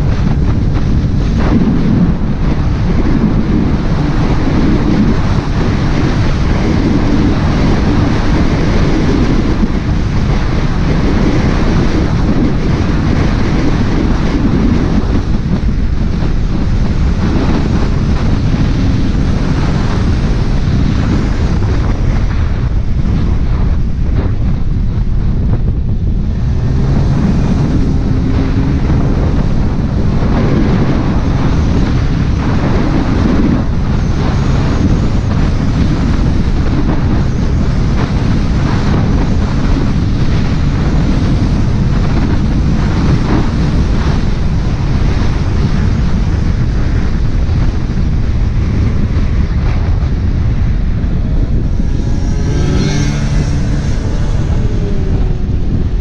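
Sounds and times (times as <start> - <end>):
faint engine hum: 0.0 - 56.0
wind buffeting microphone: 0.0 - 56.0.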